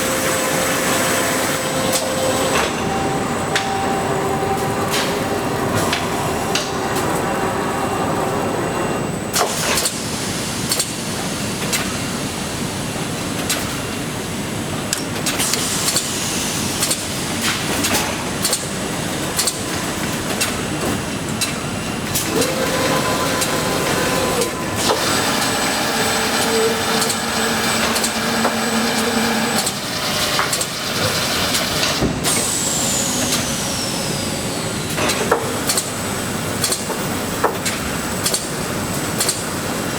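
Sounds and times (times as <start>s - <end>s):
factory machinery running: 0.0s - 39.9s.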